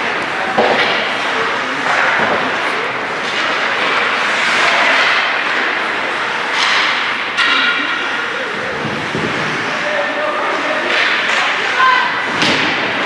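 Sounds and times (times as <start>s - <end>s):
crowd din in a hall: 0.0s - 13.0s.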